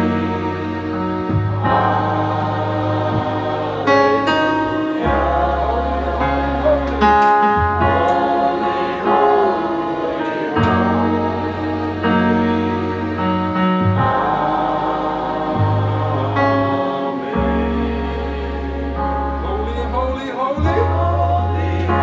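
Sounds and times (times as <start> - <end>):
gospel choir singing: 0.0 - 22.0
instrumental accompaniment: 0.0 - 22.0
long held bass notes: 0.0 - 22.0.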